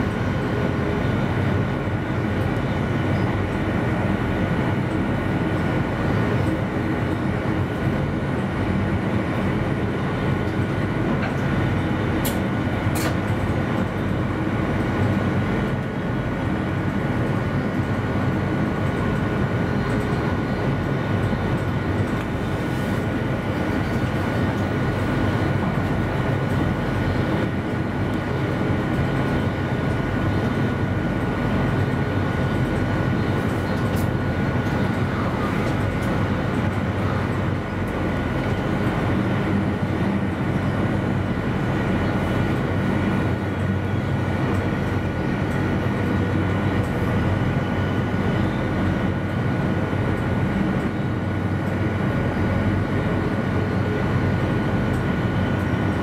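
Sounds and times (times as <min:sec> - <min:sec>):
train wheels on track: 0:00.0 - 0:49.3.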